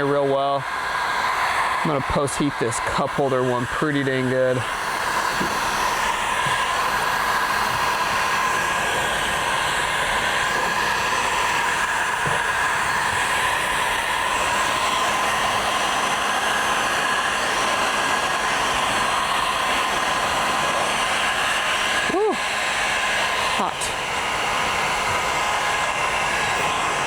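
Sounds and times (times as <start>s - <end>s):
heat gun blowing air: 0.0s - 27.0s.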